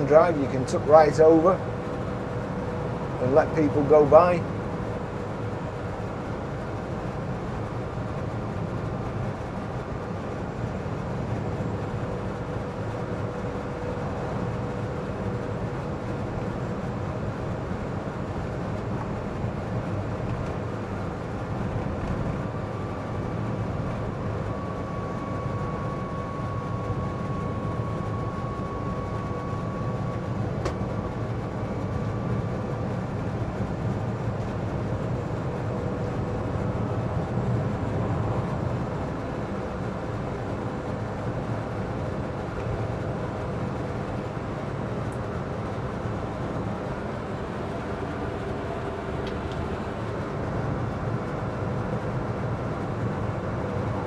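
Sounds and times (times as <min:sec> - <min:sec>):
faint steady whine: 0:00.0 - 0:54.0
road and tyre rumble with hiss: 0:00.0 - 0:54.0.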